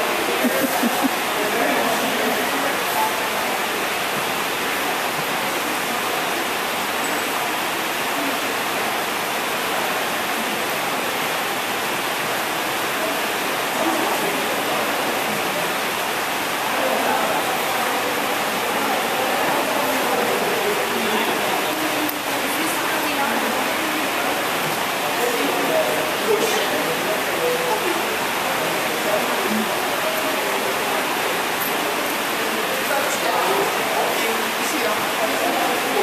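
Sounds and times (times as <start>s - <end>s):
people chattering: 0.0s - 36.0s.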